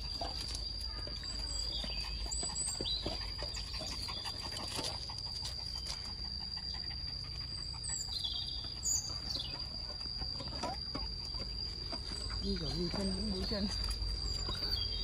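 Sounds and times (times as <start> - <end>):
high-pitched insect drone: 0.0 - 15.0
bird chirps: 0.6 - 4.5, 5.6 - 15.0.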